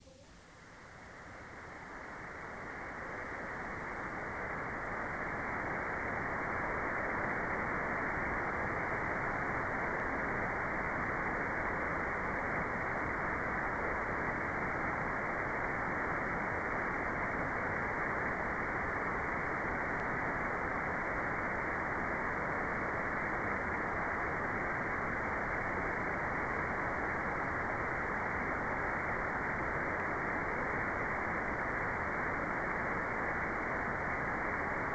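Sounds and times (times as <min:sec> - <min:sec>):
dull white noise hiss: 0:00.0 - 0:34.9.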